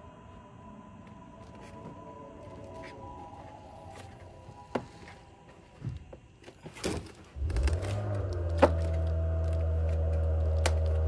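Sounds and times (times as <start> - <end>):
low hum with held tones: 0.0 - 11.0.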